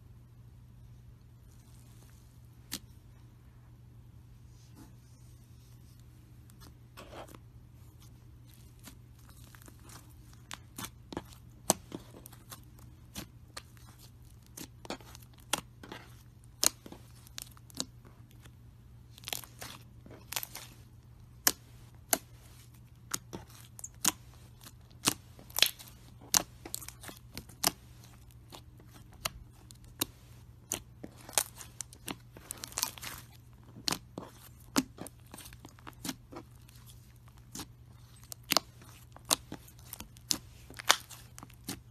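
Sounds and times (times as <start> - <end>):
slime kneaded with clicks and pops: 1.6 - 3.1, 5.9 - 41.9.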